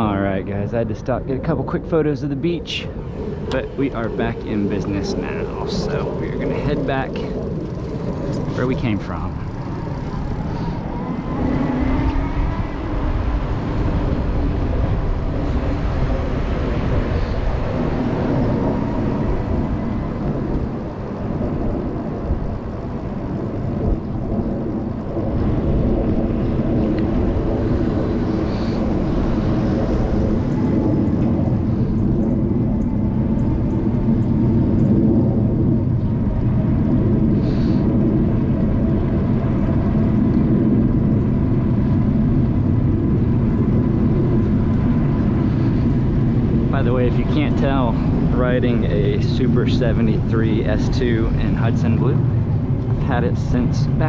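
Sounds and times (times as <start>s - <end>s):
wind on microphone: 0.0s - 54.0s
electric bike motor hum: 1.8s - 54.0s.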